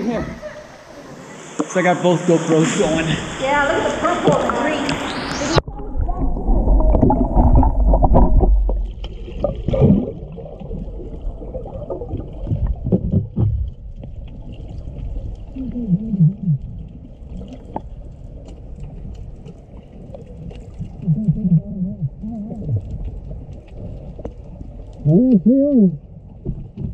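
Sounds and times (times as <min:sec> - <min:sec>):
muffled underwater water rumble: 0:02.9 - 0:26.9.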